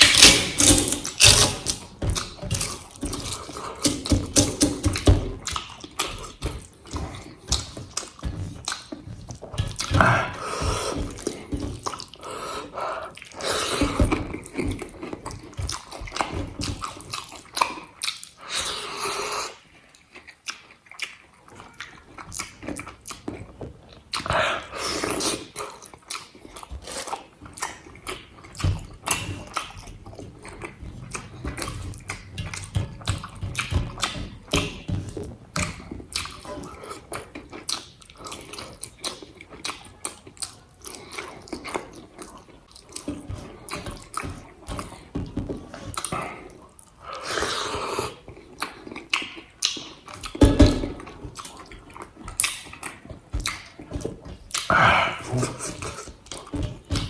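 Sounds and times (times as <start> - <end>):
person chewing food: 0.0 - 57.0
wet mouth sounds: 0.0 - 57.0.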